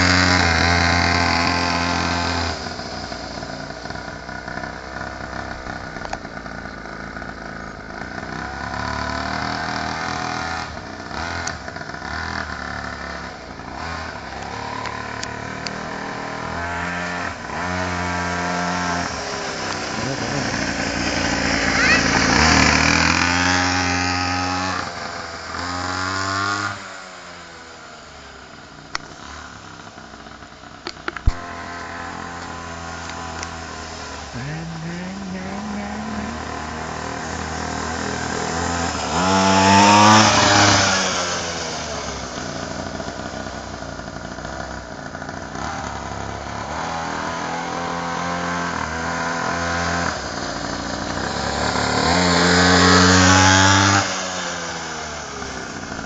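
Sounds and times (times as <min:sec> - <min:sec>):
mini motorcycle engine revving: 0:00.0 - 0:56.0.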